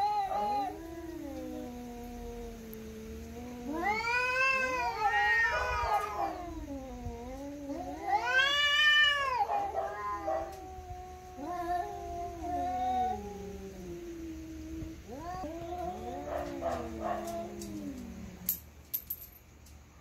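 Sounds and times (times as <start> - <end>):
cats yowling: 0.0 - 18.6.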